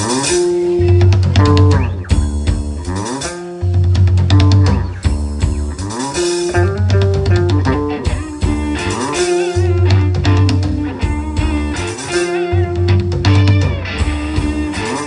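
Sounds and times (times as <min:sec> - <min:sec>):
electric bass riff: 0:00.0 - 0:15.0
rock band playing: 0:00.0 - 0:15.0.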